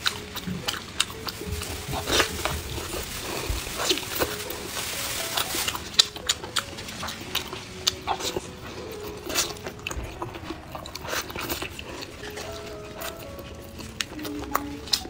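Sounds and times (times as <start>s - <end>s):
chewing with wet smacks: 0.0s - 4.5s, 5.2s - 15.0s.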